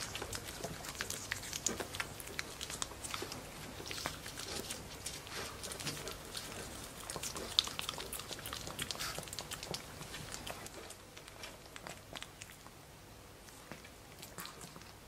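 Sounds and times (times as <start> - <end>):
puppy licking and smacking lips: 0.0 - 12.8, 13.4 - 15.0.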